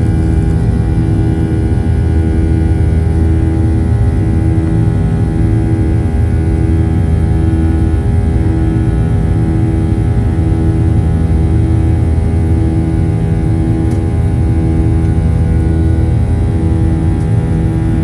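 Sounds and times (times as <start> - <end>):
jet engine drone in cabin: 0.0 - 18.0.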